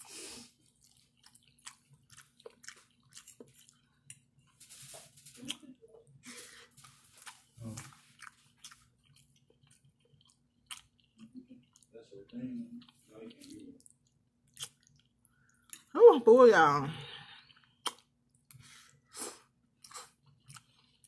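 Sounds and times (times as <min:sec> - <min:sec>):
person chewing food: 0:00.0 - 0:15.9, 0:17.2 - 0:21.0.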